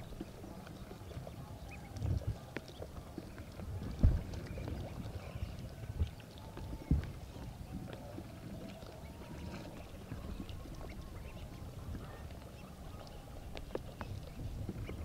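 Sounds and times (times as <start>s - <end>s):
ducks calling softly: 0.0s - 15.0s.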